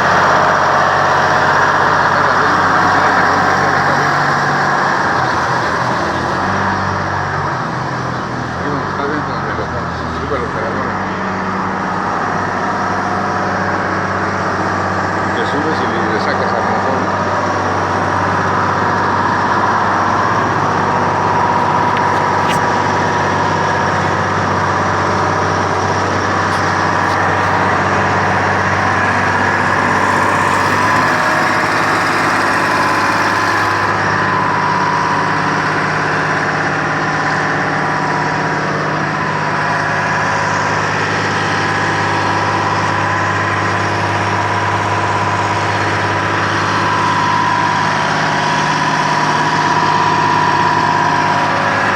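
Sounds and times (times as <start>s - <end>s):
drill rig engine running: 0.0s - 51.9s
steady whine: 0.0s - 51.9s.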